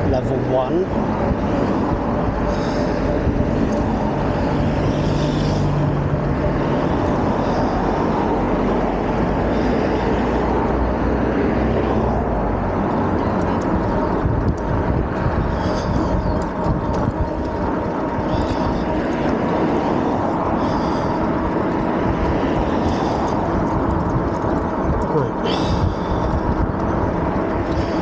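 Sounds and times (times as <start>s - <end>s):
road rumble: 0.0s - 28.0s
wind noise on microphone: 0.0s - 28.0s.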